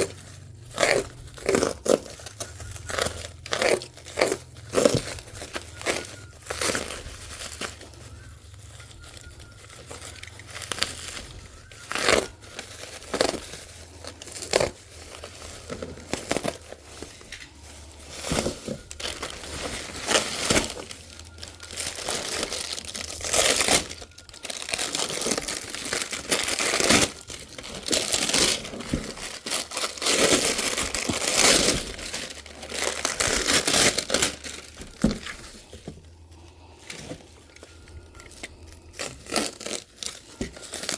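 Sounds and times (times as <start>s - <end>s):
packaging crinkling and tearing: 0.0s - 40.9s.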